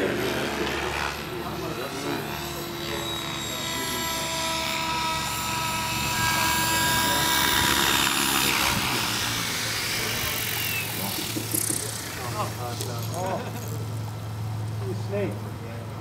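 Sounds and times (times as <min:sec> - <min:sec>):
radio-controlled helicopter whine: 0:00.0 - 0:16.0.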